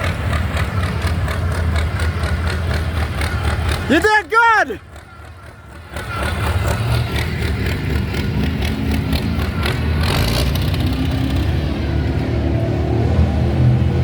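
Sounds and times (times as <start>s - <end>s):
tractor engine running hard: 0.0s - 14.0s.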